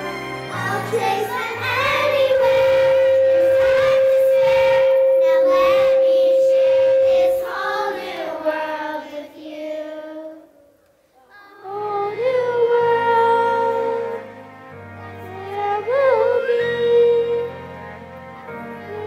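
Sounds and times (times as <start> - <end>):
children's choir singing: 0.0 - 19.0
musical backing track: 0.0 - 19.0.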